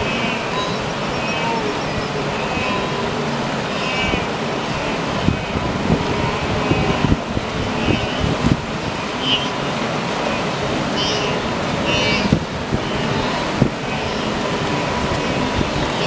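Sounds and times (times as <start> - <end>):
animal herd calls: 0.0 - 16.0
water splashing: 0.0 - 16.0.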